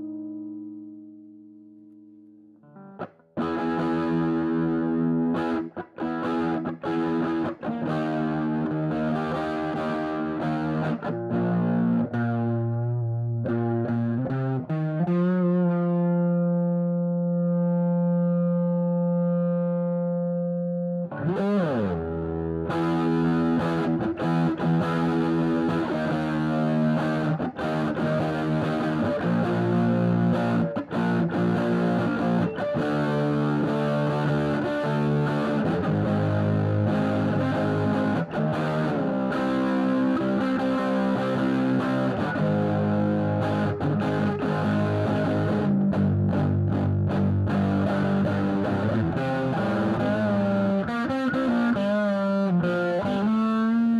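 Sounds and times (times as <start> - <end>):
distorted electric guitar riffing: 0.0 - 1.2, 2.6 - 53.9.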